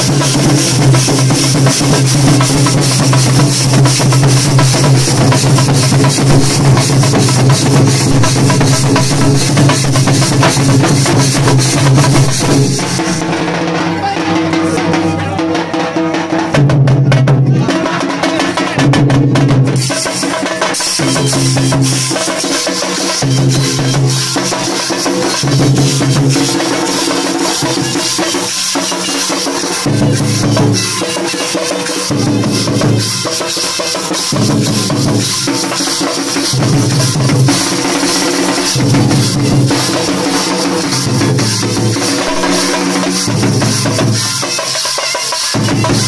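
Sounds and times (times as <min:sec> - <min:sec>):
folk drum ensemble: 0:00.0 - 0:46.0.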